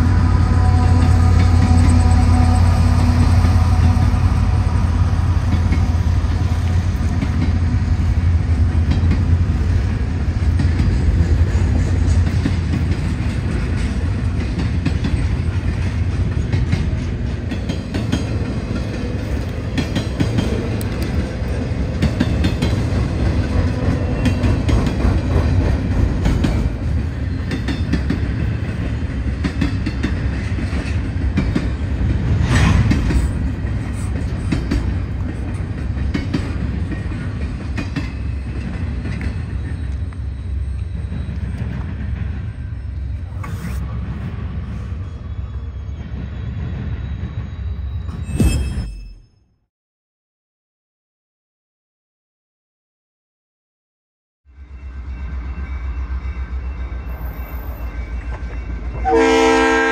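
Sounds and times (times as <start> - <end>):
train rumbling past: 0.0 - 48.3, 54.5 - 59.9.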